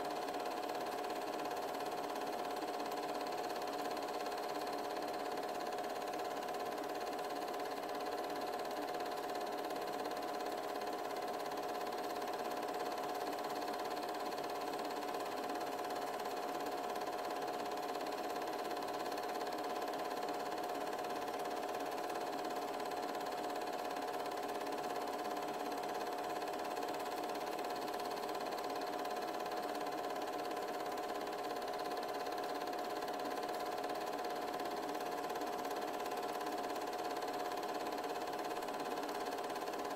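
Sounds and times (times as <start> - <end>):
film projector humming and whining: 0.0 - 39.9.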